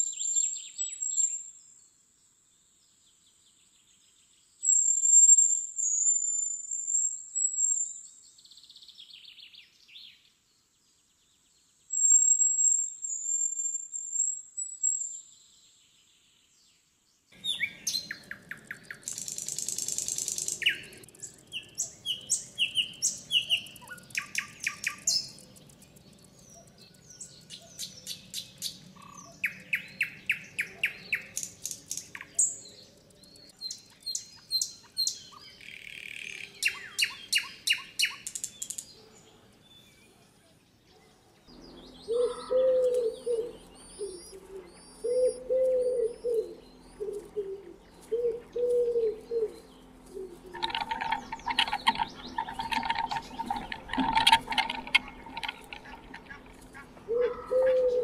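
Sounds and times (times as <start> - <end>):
songbirds trilling and chirping: 2.7 - 58.0.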